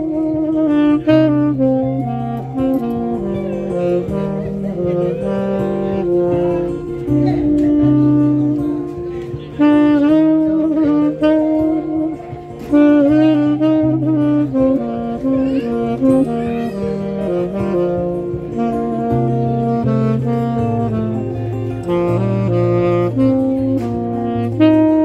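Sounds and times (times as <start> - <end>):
held accompaniment notes: 0.0 - 25.0
tenor saxophone melody: 0.0 - 25.0.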